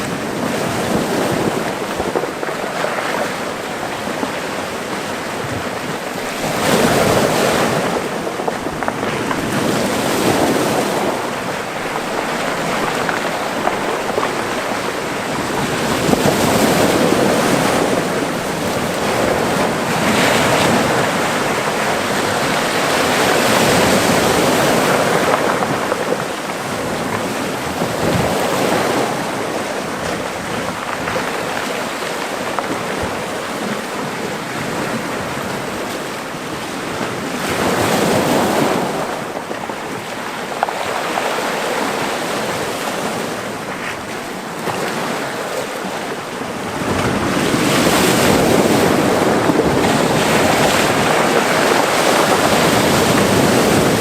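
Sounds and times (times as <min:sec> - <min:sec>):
sea waves washing into cove: 0:00.0 - 0:54.0.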